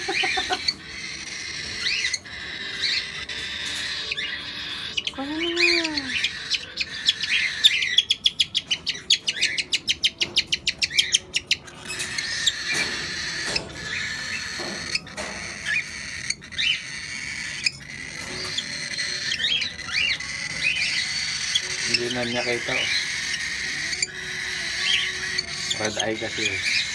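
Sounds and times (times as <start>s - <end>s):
bird chirps: 0.0s - 26.9s
cockatiels rasping begging calls: 0.0s - 26.9s.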